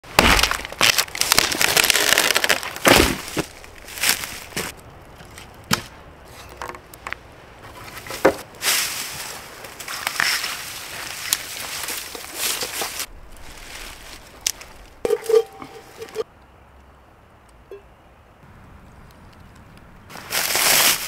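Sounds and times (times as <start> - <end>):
dry crunching and crackling: 0.0 - 16.2, 19.0 - 21.0.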